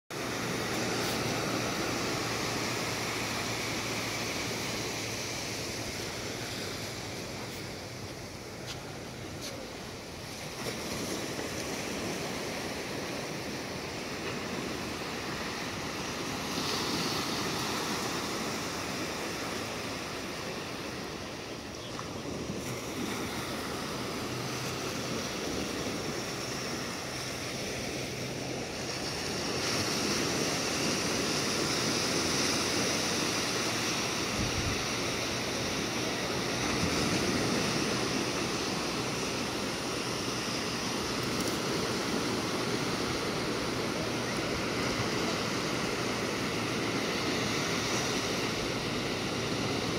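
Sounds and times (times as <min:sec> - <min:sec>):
ocean surf breaking on beach: 0:00.1 - 0:49.9.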